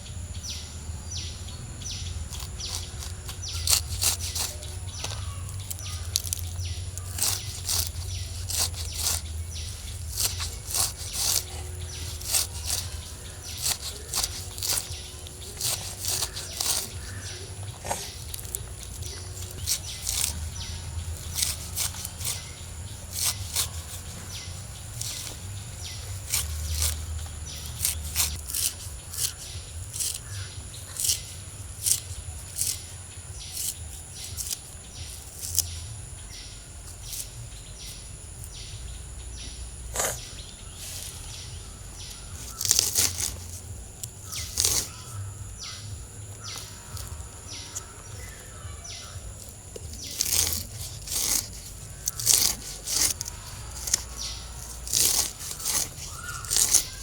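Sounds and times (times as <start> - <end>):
leaves rustling and snapping: 1.9 - 39.1, 39.7 - 57.0.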